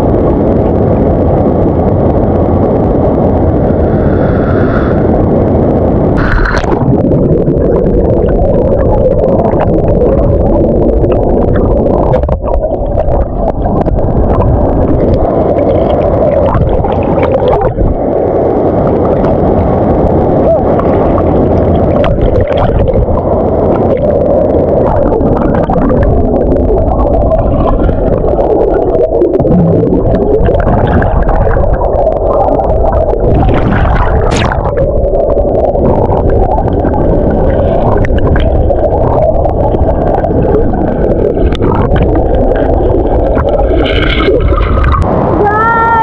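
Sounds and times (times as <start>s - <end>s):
muffled waterfall rush: 0.0s - 46.0s
water gurgling and sloshing: 0.0s - 46.0s.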